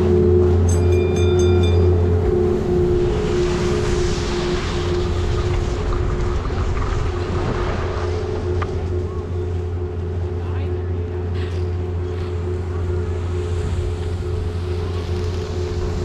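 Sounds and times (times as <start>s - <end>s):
chairlift machinery humming and whining: 0.0s - 16.0s
low drone: 0.0s - 16.0s.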